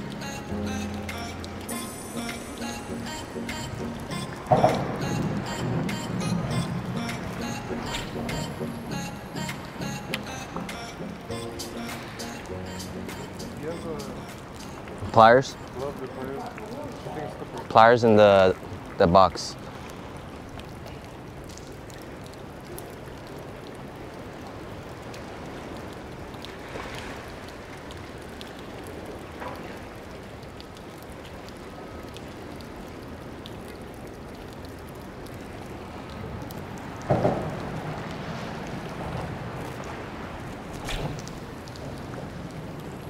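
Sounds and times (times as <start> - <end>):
moving water: 0.0 - 43.0
wind: 0.0 - 43.0.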